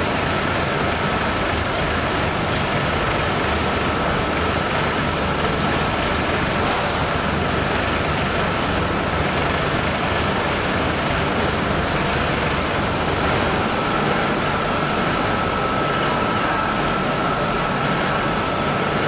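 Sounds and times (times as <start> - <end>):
constant high whine: 0.0 - 19.0
machinery rushing din: 2.8 - 19.0.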